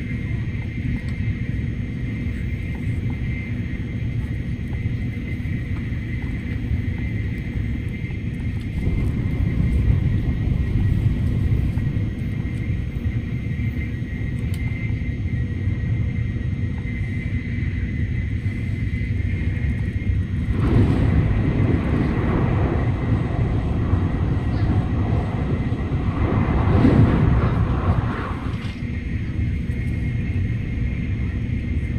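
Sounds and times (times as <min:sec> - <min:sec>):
faint steady whine: 0:00.0 - 0:31.9
train rumble inside cabin: 0:00.0 - 0:31.9.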